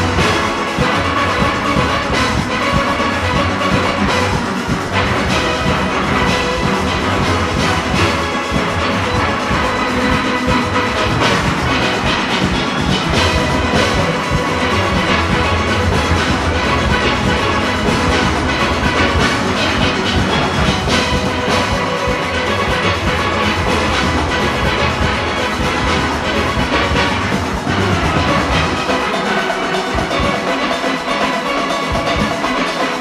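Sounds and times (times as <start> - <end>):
steel orchestra playing: 0.0 - 33.0.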